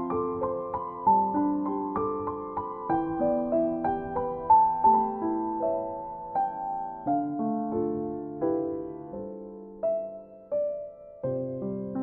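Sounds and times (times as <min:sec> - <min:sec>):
slow piano-like keyboard melody: 0:00.0 - 0:12.0.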